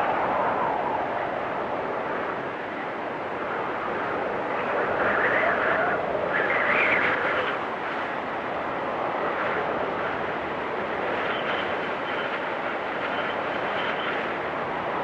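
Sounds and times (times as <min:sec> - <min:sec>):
wind storm blowing: 0:00.0 - 0:15.0.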